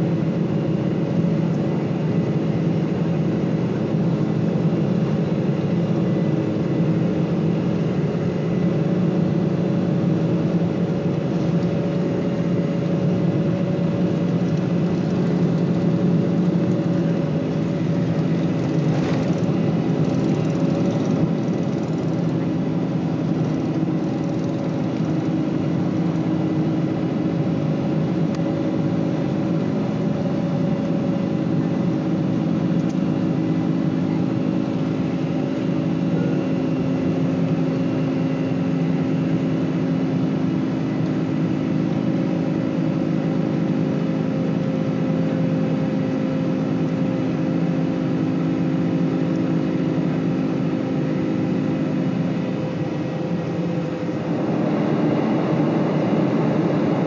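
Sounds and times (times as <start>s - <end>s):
jet engine roar from cabin: 0.0s - 57.0s.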